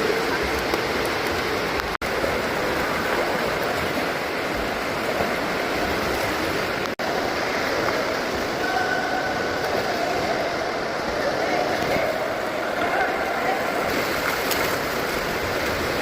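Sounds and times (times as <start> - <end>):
water rushing in swimming pool: 0.0 - 16.0.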